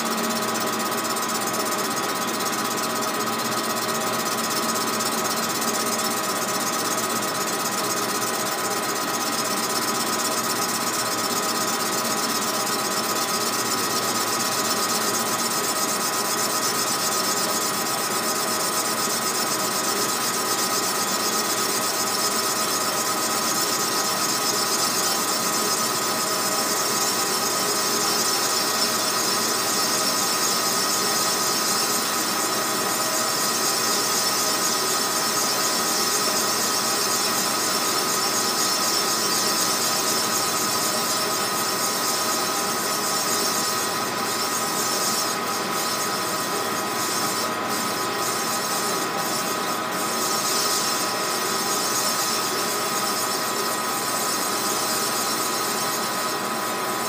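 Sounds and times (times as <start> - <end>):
metal lathe running with gear whine: 0.0 - 57.0.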